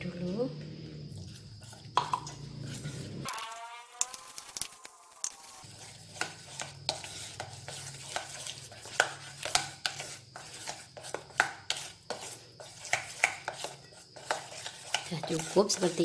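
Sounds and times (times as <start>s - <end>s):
metal spoon scraping steel bowl: 1.1s - 16.0s.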